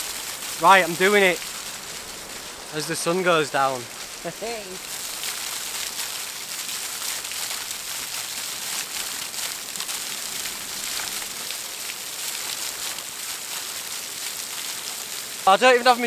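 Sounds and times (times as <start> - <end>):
waterfall spattering onto rocks: 0.0 - 16.0.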